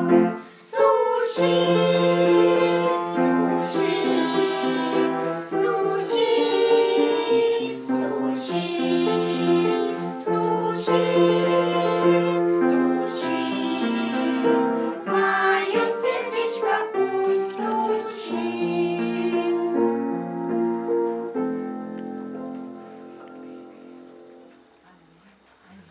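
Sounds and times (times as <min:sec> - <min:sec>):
children's choir singing: 0:00.0 - 0:24.1
piano or keyboard accompaniment: 0:00.0 - 0:24.8.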